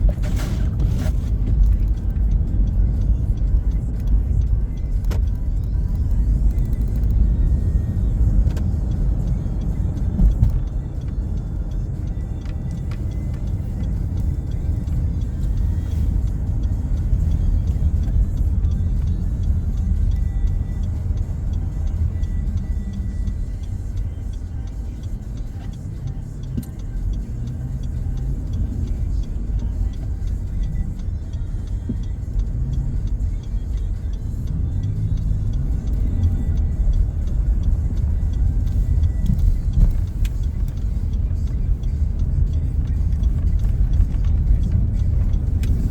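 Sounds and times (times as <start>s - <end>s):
car cabin rumble: 0.0s - 45.9s
faint music playing: 0.2s - 45.9s.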